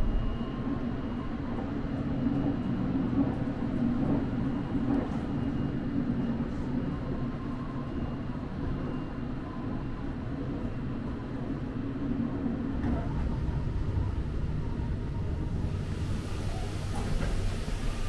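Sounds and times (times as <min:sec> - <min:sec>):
train wheels rumbling on rails: 0:00.0 - 0:07.8, 0:11.3 - 0:18.0.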